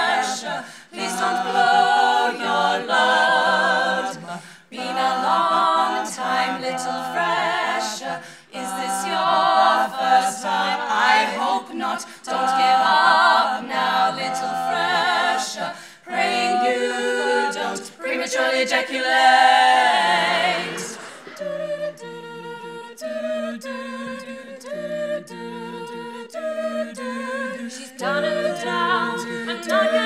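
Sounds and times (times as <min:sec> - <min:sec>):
women singing close harmony: 0:00.0 - 0:30.0.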